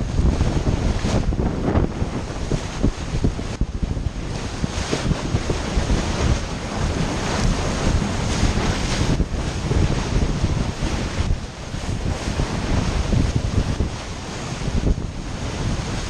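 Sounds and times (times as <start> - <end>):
rush of wind: 0.0 - 16.0
sea: 0.0 - 16.0
wind buffeting microphone: 0.0 - 16.0.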